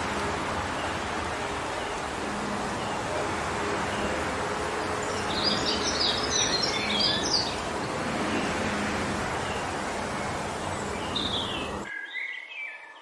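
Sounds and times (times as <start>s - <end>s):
wind rushing through trees: 0.0s - 11.9s
songbird chirping: 0.7s - 13.0s.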